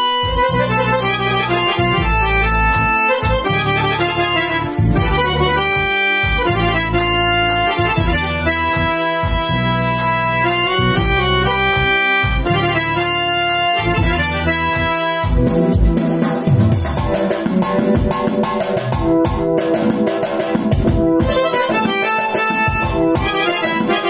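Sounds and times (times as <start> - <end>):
keyboard melody with bass: 0.0 - 24.0.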